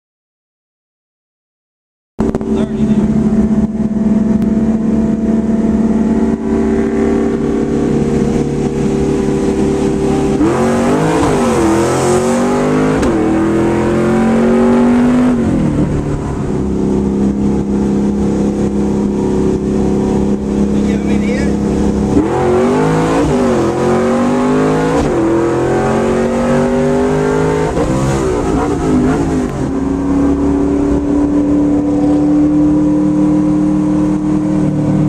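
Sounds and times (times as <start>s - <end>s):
car engine accelerating through gears: 2.2s - 35.0s.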